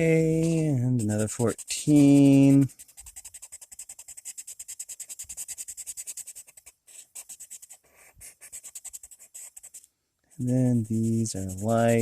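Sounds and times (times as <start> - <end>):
pencil shading on paper: 0.0 - 12.0.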